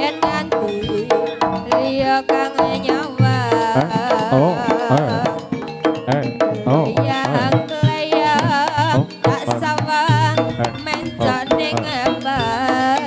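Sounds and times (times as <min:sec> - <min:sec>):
hand drum strokes: 0:00.0 - 0:13.0
wavering ornamented melody: 0:00.0 - 0:13.0.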